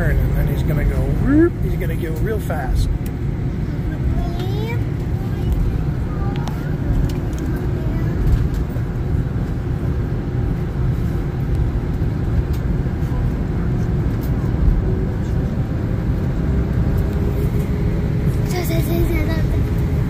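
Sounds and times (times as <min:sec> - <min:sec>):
airliner engines low rumble: 0:00.0 - 0:20.0.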